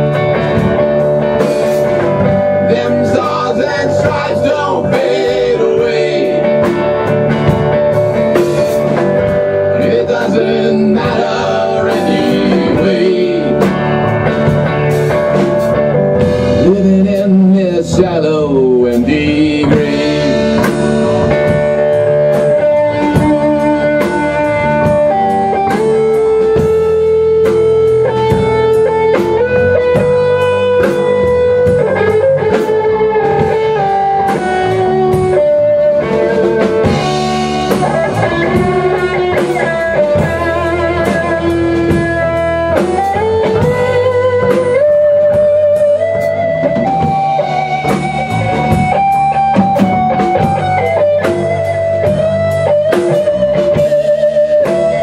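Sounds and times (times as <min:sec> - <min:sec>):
drum kit: 0:00.0 - 0:55.0
electric bass: 0:00.0 - 0:55.0
electric guitar lead: 0:00.0 - 0:55.0.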